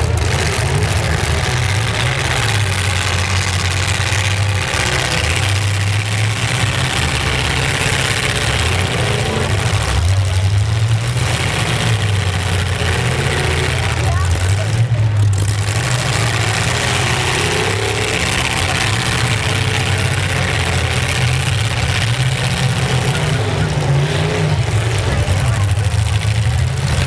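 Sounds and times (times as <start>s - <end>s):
truck engines rumbling: 0.0s - 27.0s.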